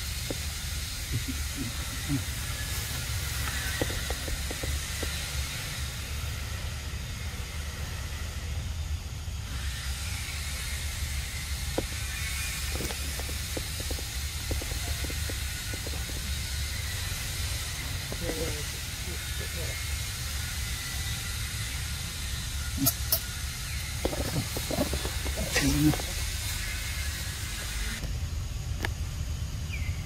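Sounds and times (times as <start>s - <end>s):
high hiss: 0.0s - 30.0s.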